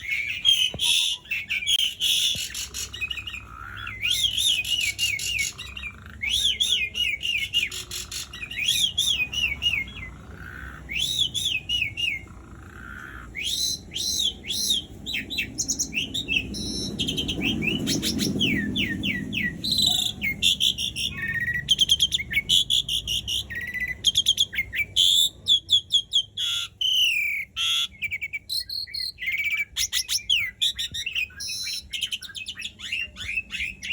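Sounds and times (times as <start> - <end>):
starling whistled song: 0.0 - 12.3, 13.0 - 33.9.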